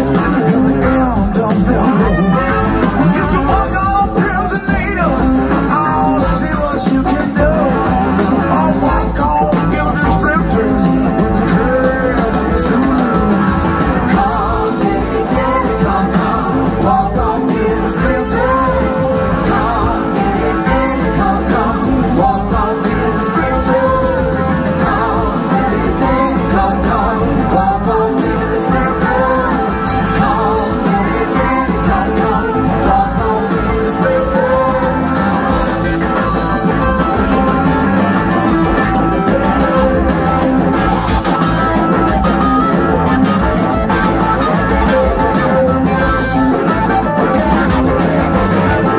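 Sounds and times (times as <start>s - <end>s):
blues-rock band playing live: 0.0s - 48.9s
horn section: 0.0s - 48.9s
person singing: 0.0s - 48.9s.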